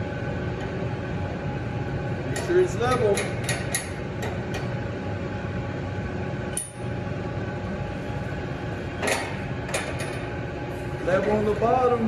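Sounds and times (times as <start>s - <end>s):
steady shop hum: 0.0s - 12.0s.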